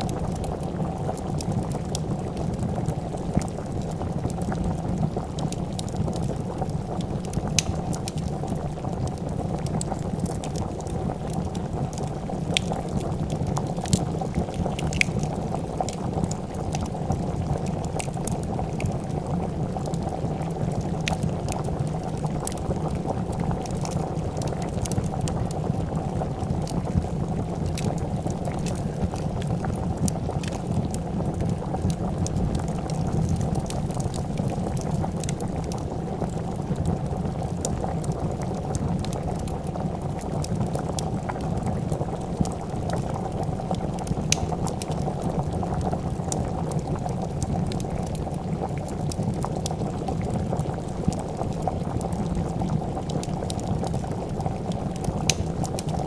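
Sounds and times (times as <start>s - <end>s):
soup boiling and bubbling: 0.0s - 56.0s
wood fire crackling and popping: 0.0s - 56.0s.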